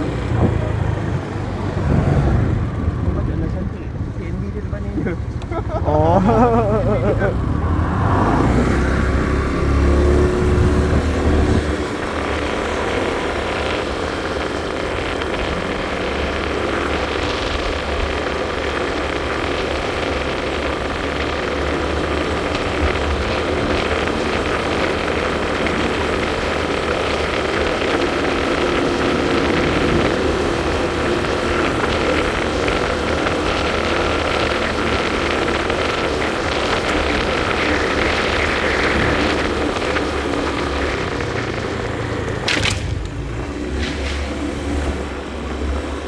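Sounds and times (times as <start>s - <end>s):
motor scooter engine cruising: 0.0s - 46.0s
wind and road noise: 0.0s - 46.0s.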